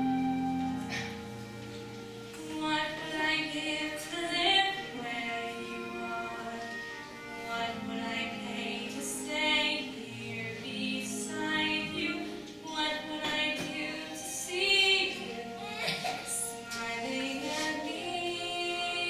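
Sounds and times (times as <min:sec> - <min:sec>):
musical accompaniment: 0:00.0 - 0:19.0
young woman singing: 0:02.4 - 0:19.0.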